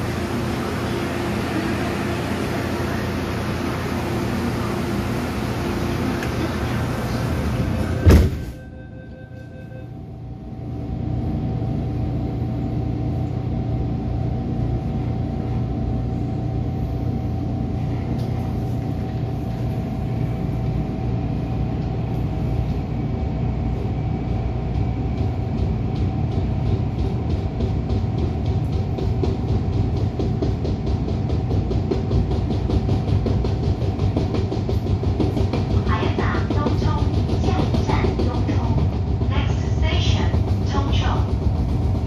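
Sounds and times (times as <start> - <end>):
train running rumble: 0.0 - 42.0.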